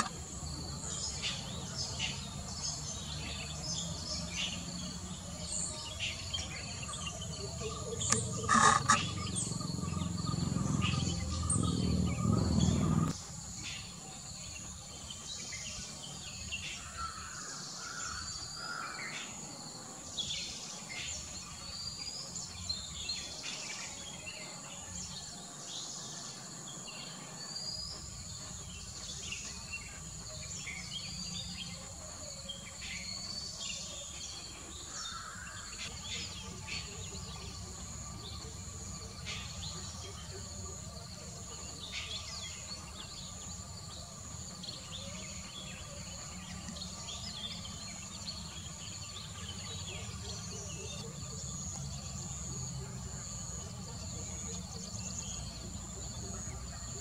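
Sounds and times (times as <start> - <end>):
birds chirping and whistling: 0.0 - 19.6, 20.2 - 57.0.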